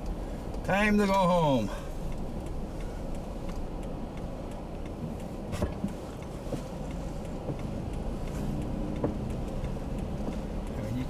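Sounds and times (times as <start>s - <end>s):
car engine and road rumble: 0.0s - 11.0s
light ticks: 0.0s - 11.0s.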